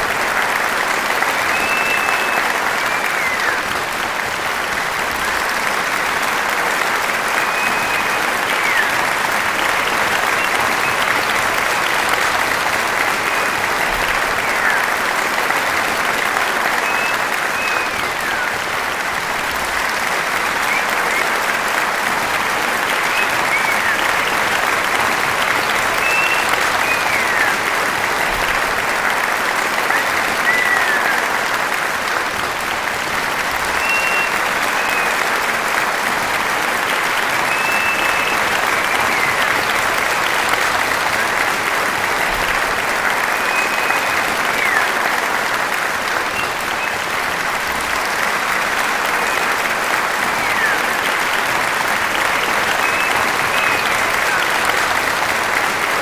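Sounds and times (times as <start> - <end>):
crowd applauding: 0.0 - 56.0.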